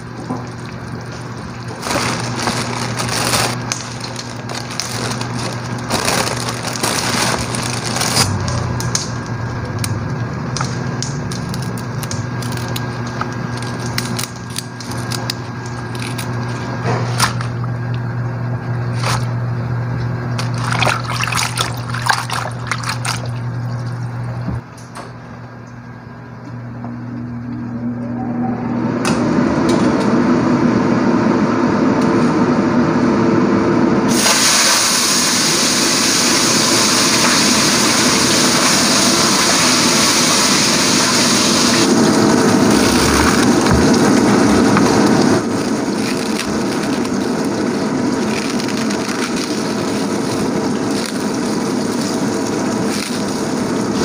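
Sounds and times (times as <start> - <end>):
range hood fan humming: 0.0 - 54.0.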